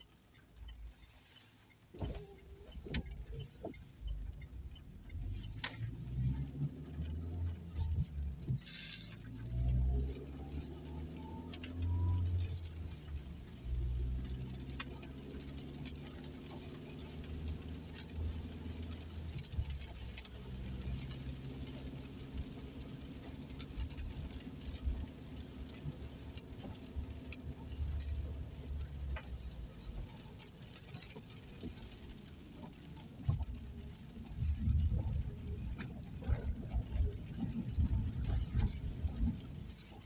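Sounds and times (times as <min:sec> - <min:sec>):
car engine and tyre hum: 0:00.0 - 0:40.0
raindrops tapping on windscreen: 0:00.0 - 0:40.0.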